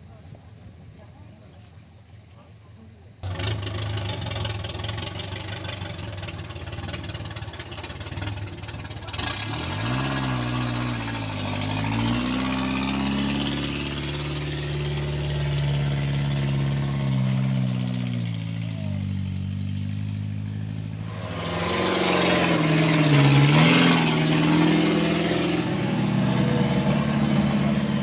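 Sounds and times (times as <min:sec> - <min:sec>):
vehicle engines labouring: 0:00.0 - 0:28.0
engine revving high: 0:03.2 - 0:28.0.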